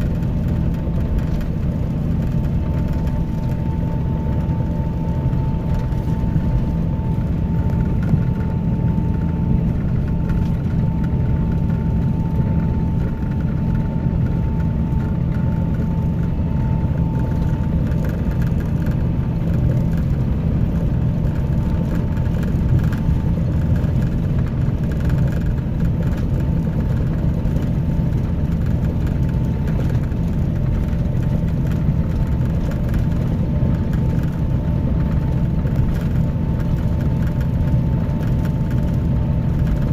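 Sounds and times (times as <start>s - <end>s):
coach engine droning: 0.0s - 39.9s.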